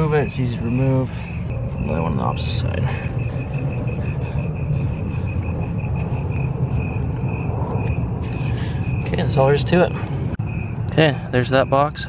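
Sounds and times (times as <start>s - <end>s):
low rumble: 0.2s - 11.2s.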